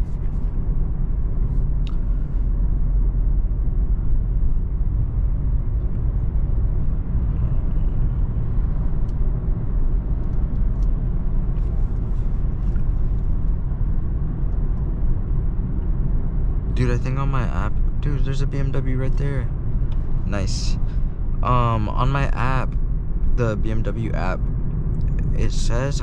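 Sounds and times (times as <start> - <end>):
car engine at light load: 0.0 - 26.0
tyre and road noise: 0.0 - 26.0.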